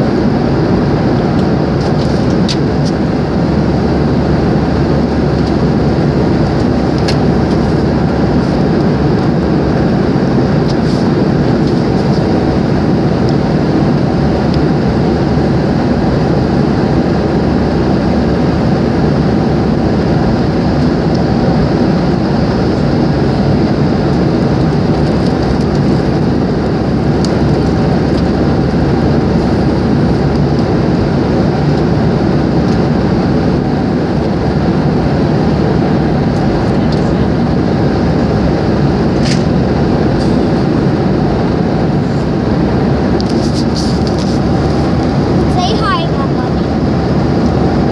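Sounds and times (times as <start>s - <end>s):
airliner cabin roar: 0.0s - 47.9s.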